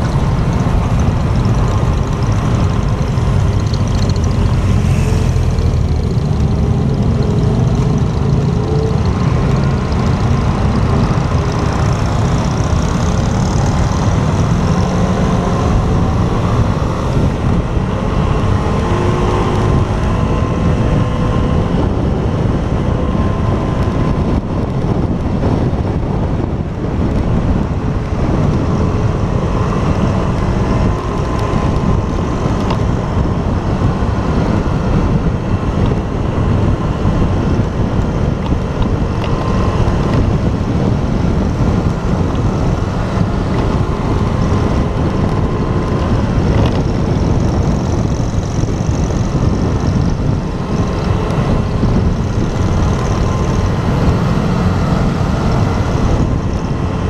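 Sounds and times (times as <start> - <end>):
motorcycle engine running: 0.0 - 57.0
wind rush on microphone: 0.0 - 57.0.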